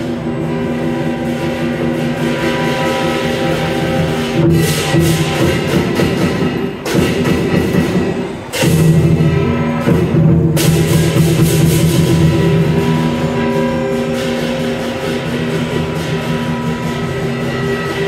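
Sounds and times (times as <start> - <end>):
cymbals crashing: 0.0 - 18.0
drum: 0.0 - 18.0
gong ringing: 0.0 - 18.0.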